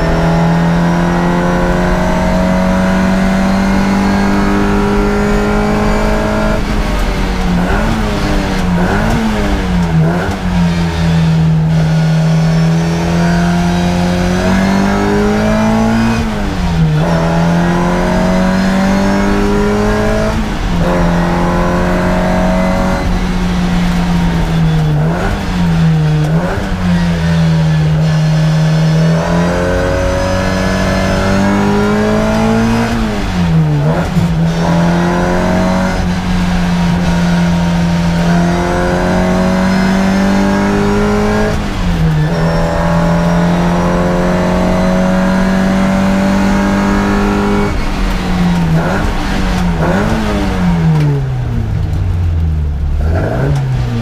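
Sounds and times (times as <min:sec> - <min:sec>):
racing car engine: 0:00.0 - 0:54.0.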